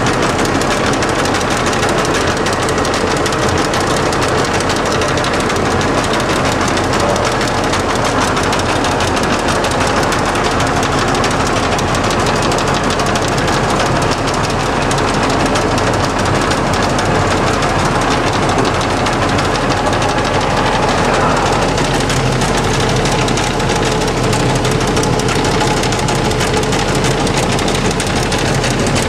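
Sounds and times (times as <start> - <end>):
lathe gear drive clattering: 0.0 - 29.0.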